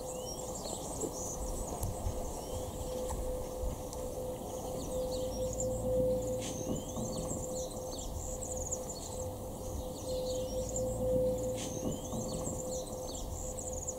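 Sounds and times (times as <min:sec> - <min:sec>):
songbirds chirping and singing: 0:00.0 - 0:13.9
low hum: 0:01.5 - 0:13.9
rising whistles: 0:02.4 - 0:13.9.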